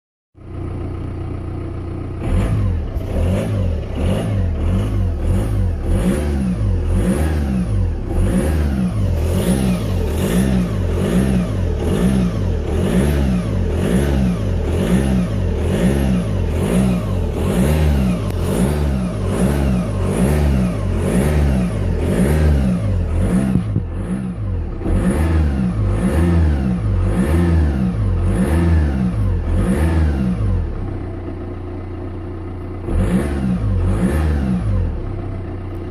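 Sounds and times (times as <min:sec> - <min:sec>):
diesel engine running: 0:00.4 - 0:35.9.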